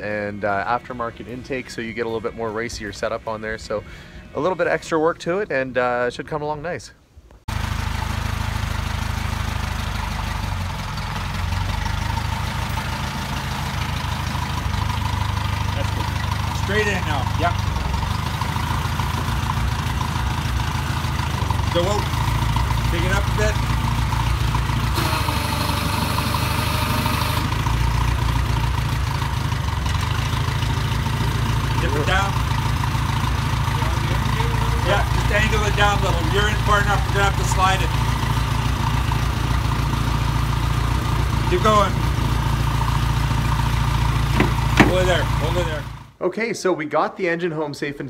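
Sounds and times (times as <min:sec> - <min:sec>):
tractor engine running: 0:07.5 - 0:46.2.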